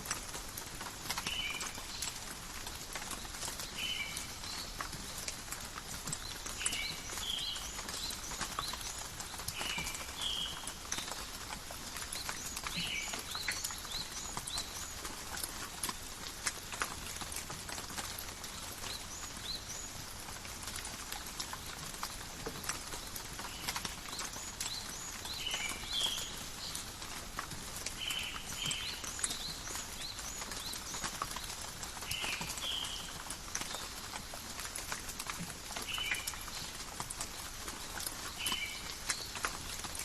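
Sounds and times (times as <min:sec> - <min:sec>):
rain ticking on leaves: 0:00.0 - 0:40.0.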